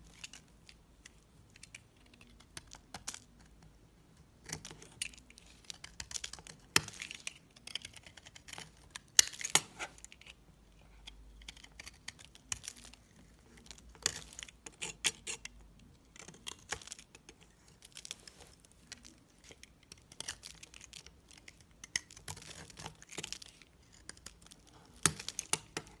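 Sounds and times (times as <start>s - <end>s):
knife scraping soap: 4.4s - 26.0s.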